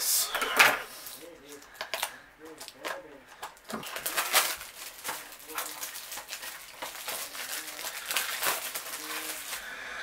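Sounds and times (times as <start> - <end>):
plastic wrapping crinkling and tearing: 0.9 - 9.7.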